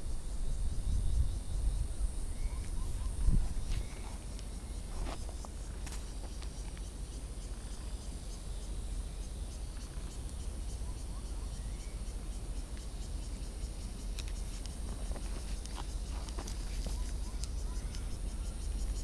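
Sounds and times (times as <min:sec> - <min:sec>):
insects chirring: 0:00.0 - 0:19.0
low steady rumble: 0:00.0 - 0:19.0.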